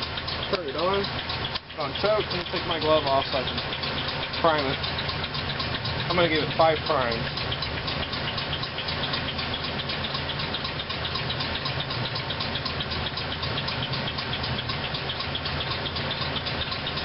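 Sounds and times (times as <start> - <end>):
car engine idling: 0.0 - 17.0
fast even engine ticking: 0.0 - 17.0.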